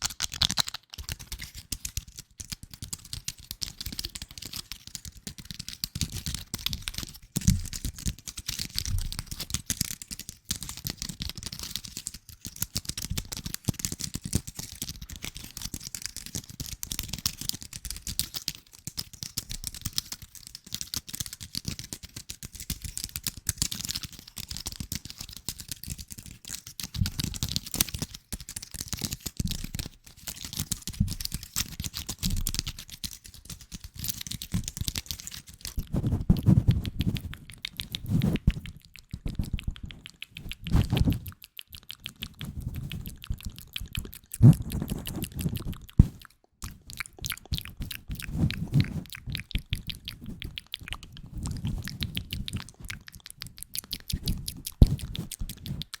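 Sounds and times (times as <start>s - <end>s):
rapid small taps and clicks: 0.0s - 56.0s.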